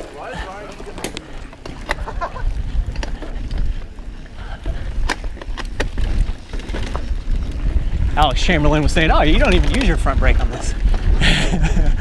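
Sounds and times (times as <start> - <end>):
bike rattling over bumps: 0.0 - 12.0
wind buffeting microphone: 0.0 - 12.0.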